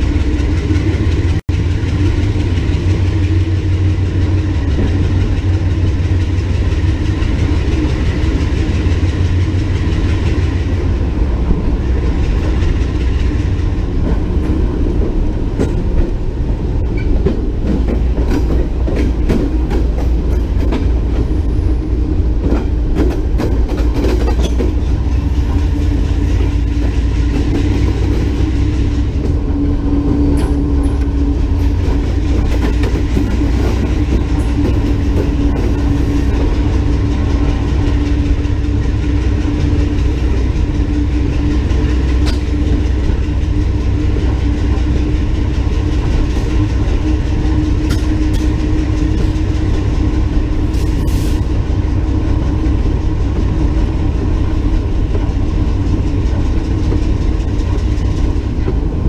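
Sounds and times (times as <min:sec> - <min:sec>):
locomotive engine rumbling: 0:00.0 - 0:59.0
wheels clicking over rails: 0:00.0 - 0:59.0.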